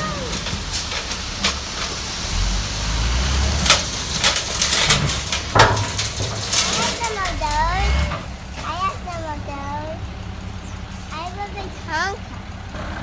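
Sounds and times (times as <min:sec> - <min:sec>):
plastic toy trucks in sand: 0:00.0 - 0:13.0.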